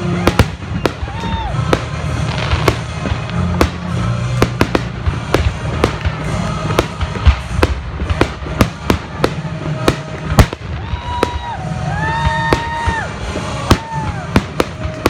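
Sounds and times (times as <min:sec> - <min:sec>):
music: 0:00.0 - 0:15.0
firework shells bursting: 0:00.2 - 0:15.0.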